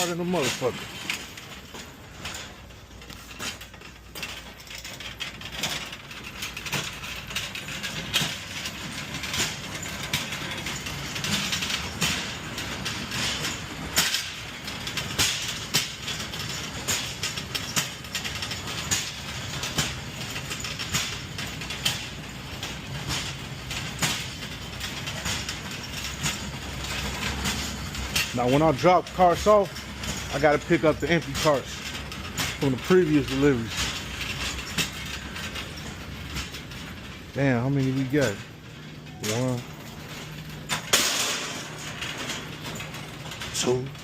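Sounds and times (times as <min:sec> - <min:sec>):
carts rattling and clanking: 0:00.0 - 0:44.0.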